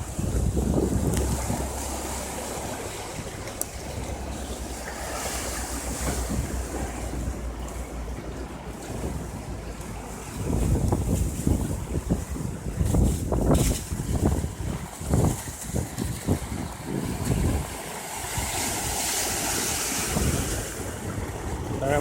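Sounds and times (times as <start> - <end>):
floodwater rushing: 0.0 - 22.0
wind buffeting microphone: 0.0 - 22.0.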